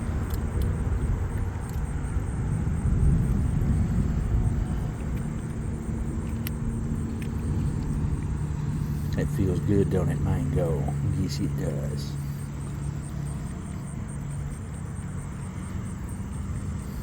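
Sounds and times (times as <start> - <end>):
faint hum: 0.0 - 17.0
low steady rumble: 0.0 - 17.0.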